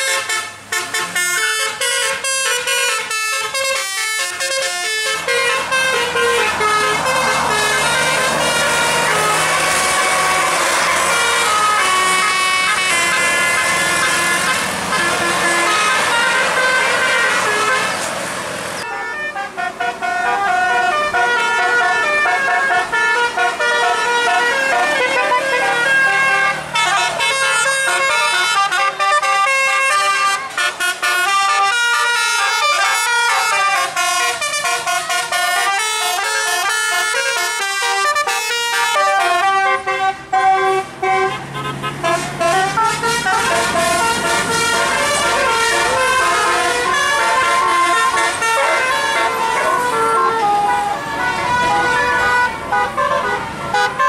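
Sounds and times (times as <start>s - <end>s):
bus horns playing melodic tunes: 0.0s - 54.0s.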